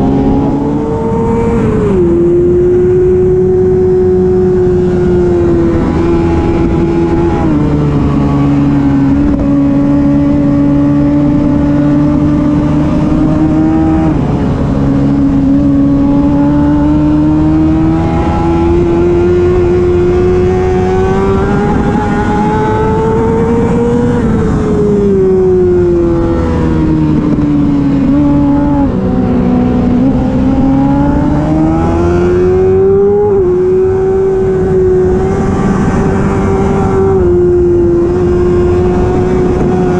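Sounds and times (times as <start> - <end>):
sport bike engine revving: 0.0 - 39.9.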